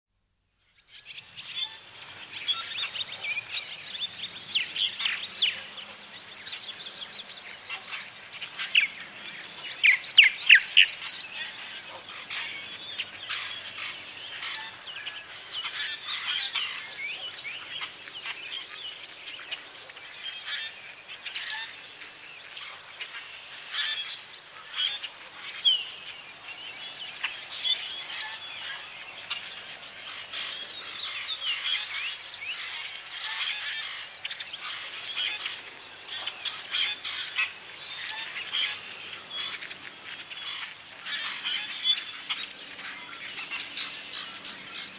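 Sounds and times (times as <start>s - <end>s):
bird chorus: 0.6s - 44.9s.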